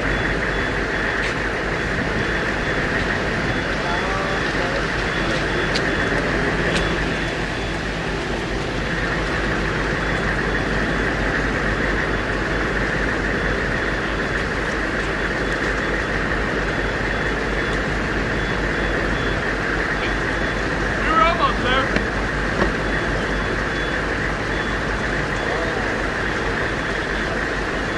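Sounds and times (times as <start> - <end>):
low hum: 0.0 - 27.9
steady background noise: 0.0 - 27.9.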